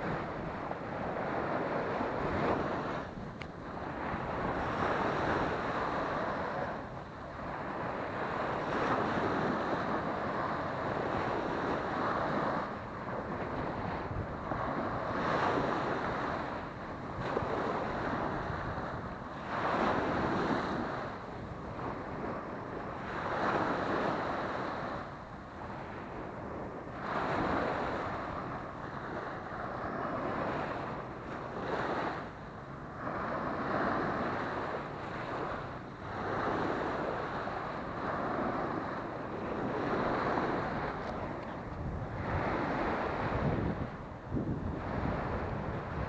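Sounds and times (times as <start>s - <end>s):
small waves breaking on sand: 0.0s - 46.0s
wind rumbling on microphone: 0.0s - 46.0s.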